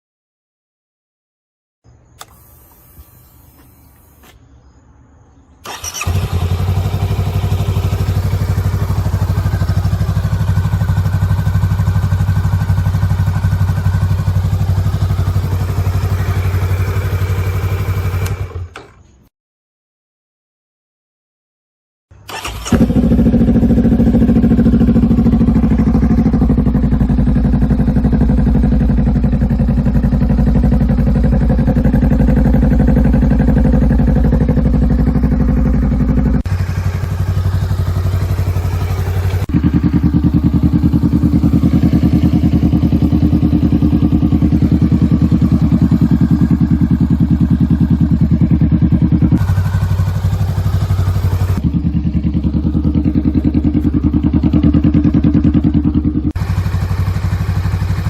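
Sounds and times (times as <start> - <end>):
motorcycle engine idling: 5.6 - 18.9, 22.3 - 58.0.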